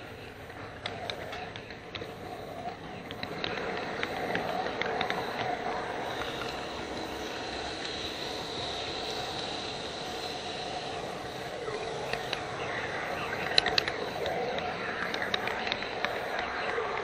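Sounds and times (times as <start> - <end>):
faint high whine: 0.0 - 17.0
model train wheels rumbling on rail: 0.0 - 17.0
sharp clicks: 0.2 - 17.0.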